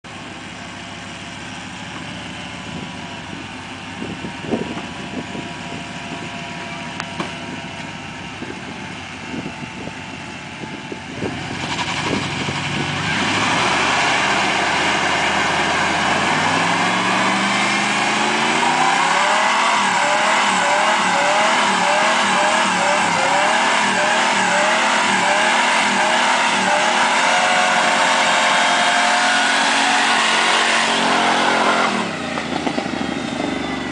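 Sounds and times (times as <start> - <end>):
truck engine idling and revving: 0.0 - 33.9.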